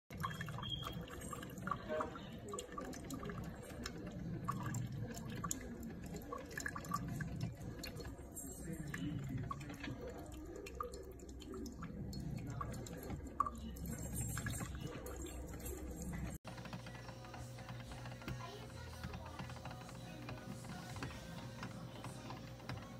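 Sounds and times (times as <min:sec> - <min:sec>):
coffee dripping into mug: 0:00.1 - 0:22.9
coffee maker humming: 0:00.1 - 0:22.9.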